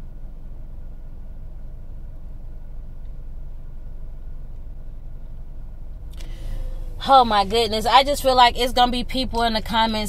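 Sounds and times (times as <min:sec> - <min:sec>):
faint hum: 0:00.0 - 0:10.0
low engine rumble: 0:00.0 - 0:10.0.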